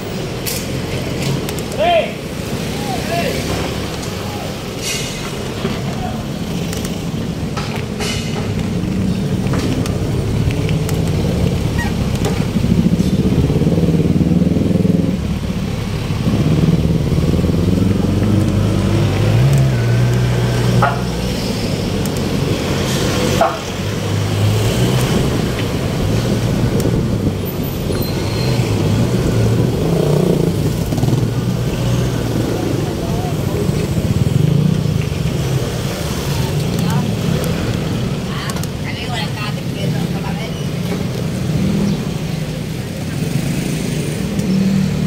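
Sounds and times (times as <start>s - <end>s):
vehicle engines passing: 0.0s - 45.0s.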